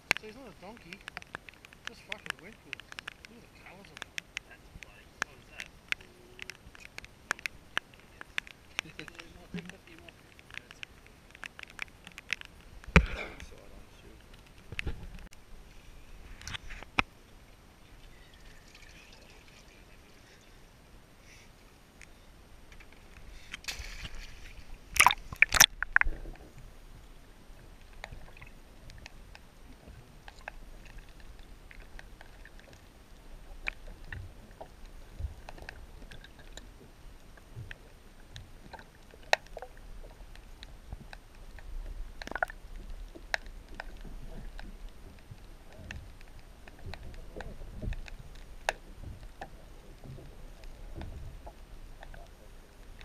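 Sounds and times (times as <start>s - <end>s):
muffled underwater clicks and knocks: 0.0s - 15.4s, 16.2s - 17.2s, 22.7s - 53.0s
water splashing and sloshing: 0.0s - 53.0s.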